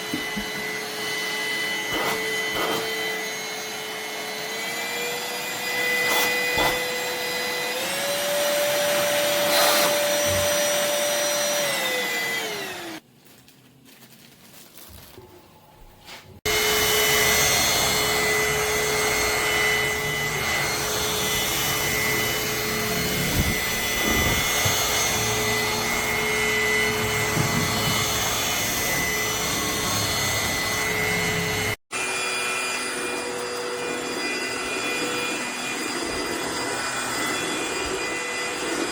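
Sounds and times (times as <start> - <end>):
vacuum motor whining: 0.0 - 13.0, 16.4 - 38.9.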